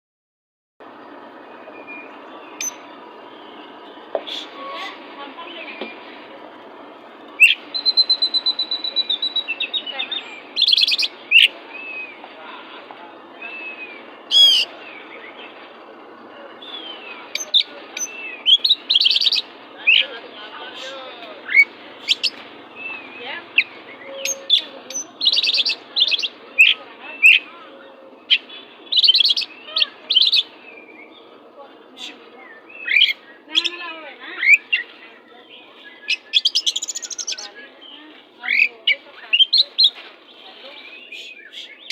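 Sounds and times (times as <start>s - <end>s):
bird singing varied song: 0.8s - 41.9s.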